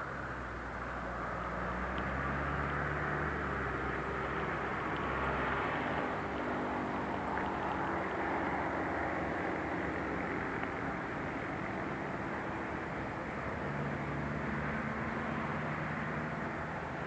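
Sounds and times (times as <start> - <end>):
city traffic: 0.0 - 17.0.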